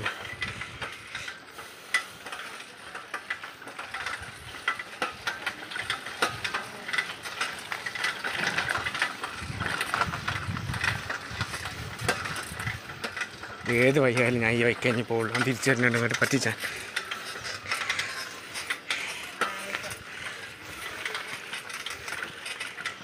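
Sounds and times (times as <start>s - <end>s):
bicycle tyre and wind rush: 0.0s - 23.0s
irregular clicks and rattles: 0.0s - 23.0s.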